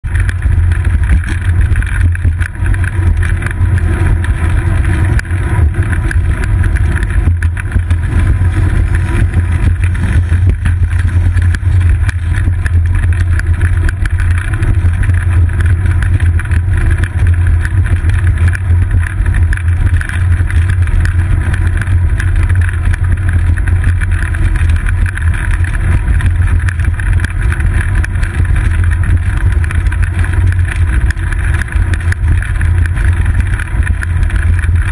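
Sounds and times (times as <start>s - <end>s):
wind buffeting and road rumble: 0.0s - 34.9s.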